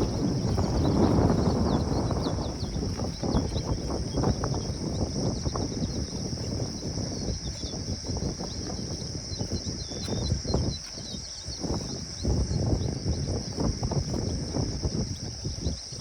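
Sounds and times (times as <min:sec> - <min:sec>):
high insect buzz: 0:00.0 - 0:16.0.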